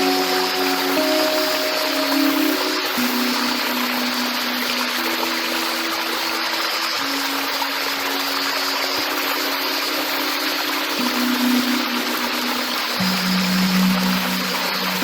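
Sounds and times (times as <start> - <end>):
minimal electronic music: 0.0 - 15.0
stream water flowing: 0.0 - 15.0.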